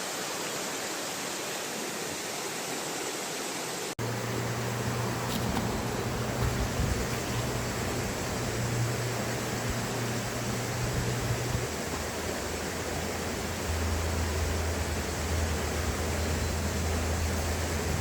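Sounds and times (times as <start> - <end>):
fast river rushing: 0.0 - 18.0.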